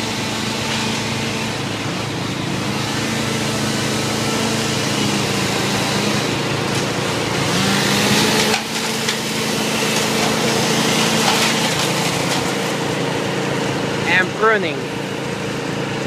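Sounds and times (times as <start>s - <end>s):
machinery engine running: 0.0s - 16.0s.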